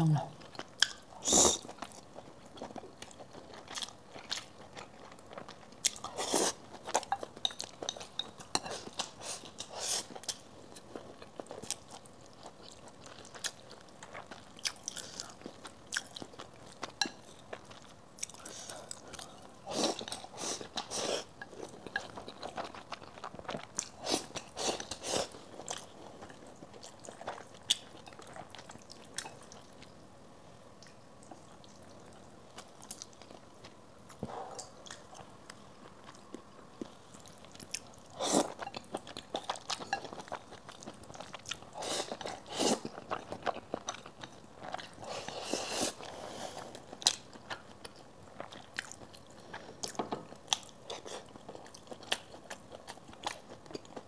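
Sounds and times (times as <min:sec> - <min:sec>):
person chewing food: 0:00.4 - 0:30.0, 0:30.8 - 0:54.0.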